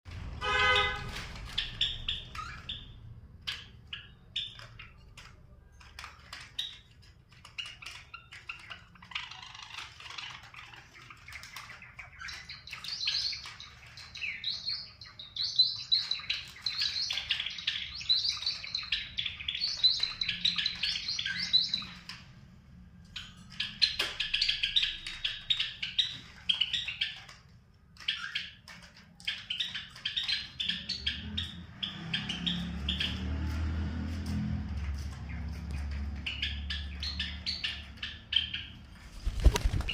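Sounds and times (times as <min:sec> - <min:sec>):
small birds chirping: 0:00.2 - 0:39.9.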